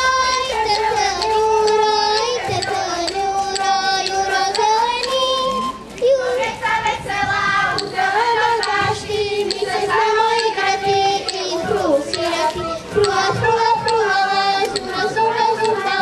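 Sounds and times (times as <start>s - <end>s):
girls singing in unison: 0.0s - 16.0s.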